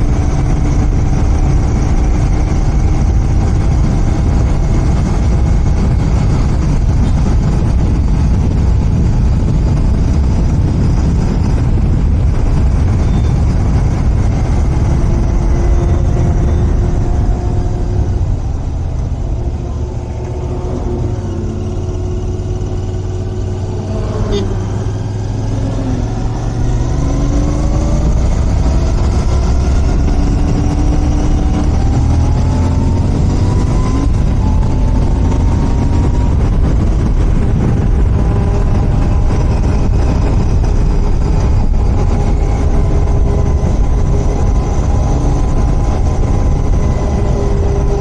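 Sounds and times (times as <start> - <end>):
motorcycle engine riding: 0.0 - 48.0
road noise: 0.0 - 48.0
wind noise: 0.0 - 48.0.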